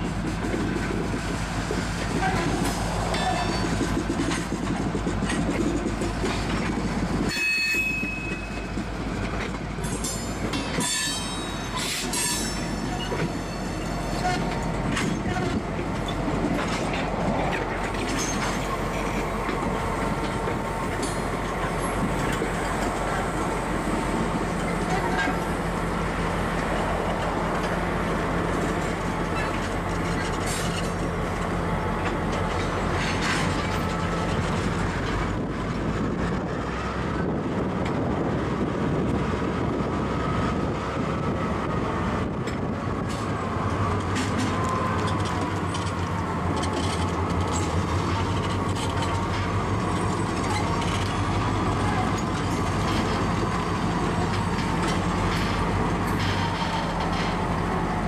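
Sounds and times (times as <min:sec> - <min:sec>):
diesel locomotive engine hum: 0:00.0 - 0:58.0
wheels clanking over rail joints: 0:00.0 - 0:58.0.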